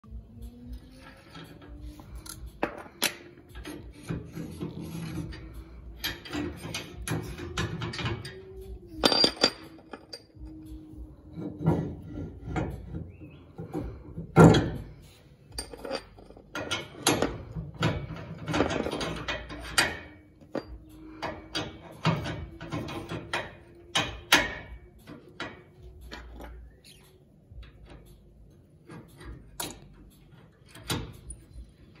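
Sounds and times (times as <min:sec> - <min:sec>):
metal clicks clanks and scrapes: 0:00.3 - 0:32.0.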